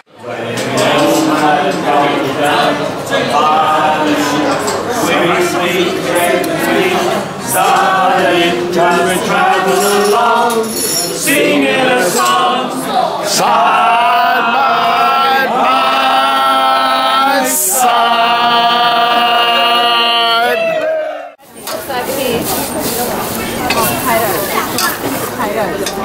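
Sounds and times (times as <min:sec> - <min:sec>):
group singing unaccompanied: 0:00.0 - 0:21.4.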